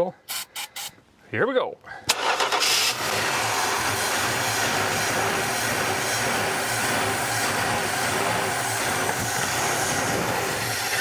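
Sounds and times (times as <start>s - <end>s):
car engine running: 2.1s - 11.0s.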